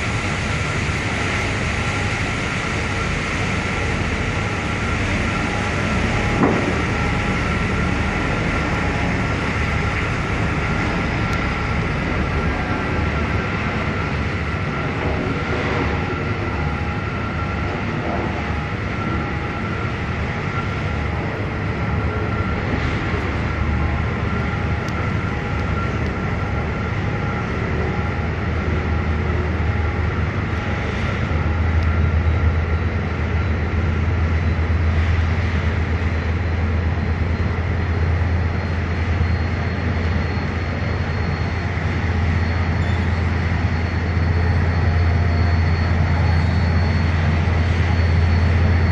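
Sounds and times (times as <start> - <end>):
ferry engines rumbling: 0.0 - 48.9
thin constant whine: 0.0 - 48.9.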